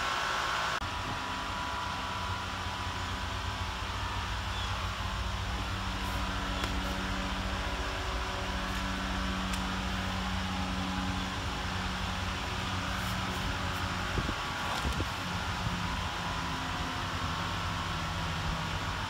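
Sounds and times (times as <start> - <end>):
machine hum with low rumble: 0.0 - 19.0.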